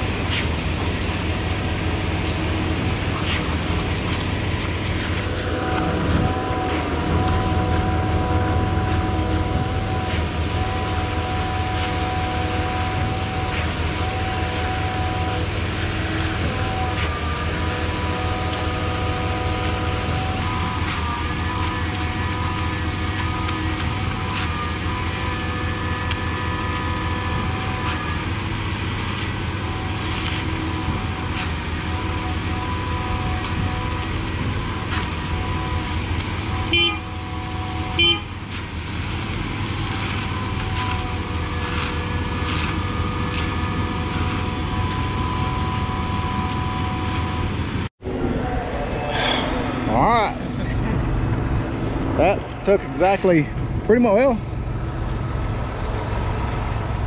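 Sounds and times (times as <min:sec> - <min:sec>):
diesel engine drone: 0:00.0 - 0:57.0
steady whine: 0:00.0 - 0:57.0.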